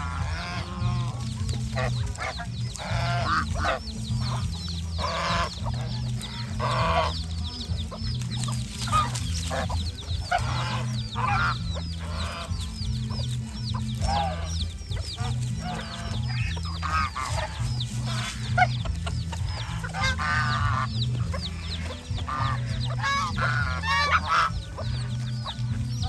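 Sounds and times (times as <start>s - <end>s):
background music with bass line: 0.0s - 26.0s
farmyard fowl calling: 0.0s - 26.0s
geese honking: 0.0s - 26.0s.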